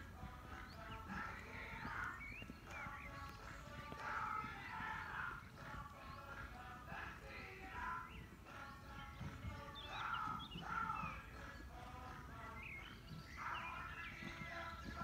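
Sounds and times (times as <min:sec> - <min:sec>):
birds chirping and singing: 0:00.0 - 0:15.0
horse cantering on sand: 0:00.0 - 0:15.0.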